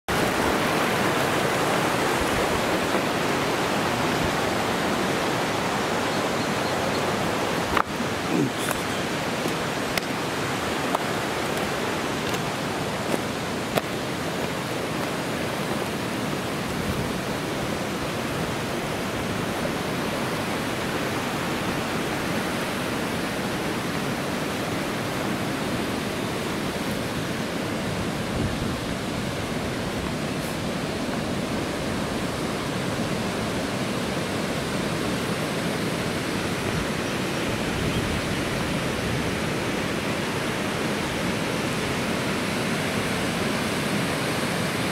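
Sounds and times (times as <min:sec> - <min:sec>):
waterfall rushing: 0:00.1 - 0:44.9.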